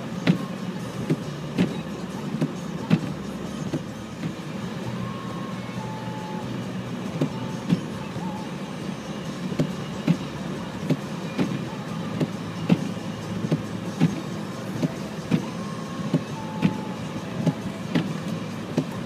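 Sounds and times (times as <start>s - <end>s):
car low rumble: 0.0s - 19.0s.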